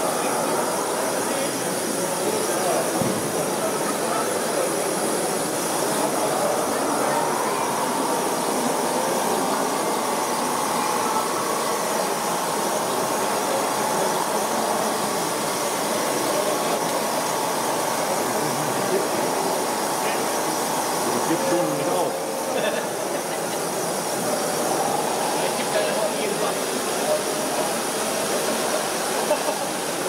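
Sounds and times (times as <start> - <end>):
hall hubbub: 0.0 - 30.0
model machines humming: 0.0 - 30.0.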